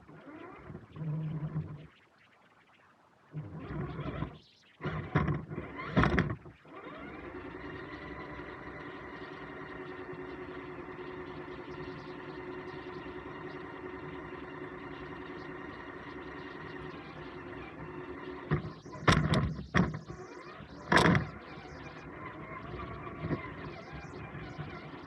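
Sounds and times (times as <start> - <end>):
electric motor whine: 0.0 - 1.9, 3.4 - 25.0.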